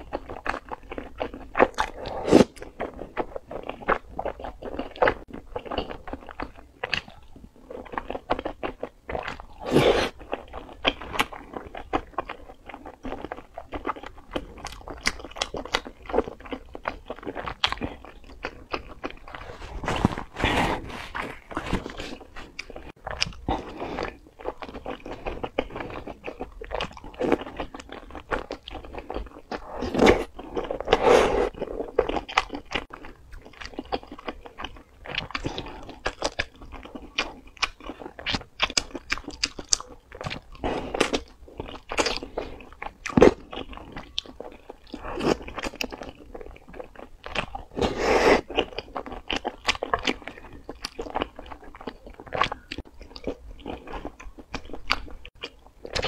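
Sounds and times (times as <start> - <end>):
chewing and slurping noodles: 0.0 - 56.0.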